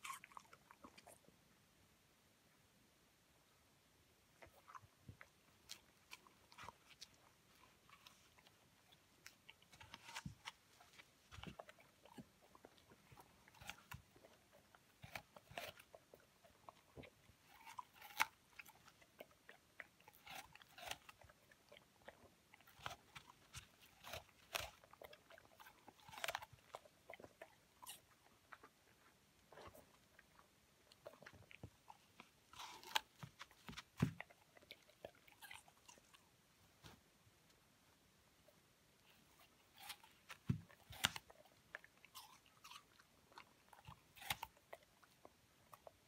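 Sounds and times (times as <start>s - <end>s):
puppy crunching an apple: 0.0s - 1.3s, 4.3s - 37.0s, 39.0s - 46.0s.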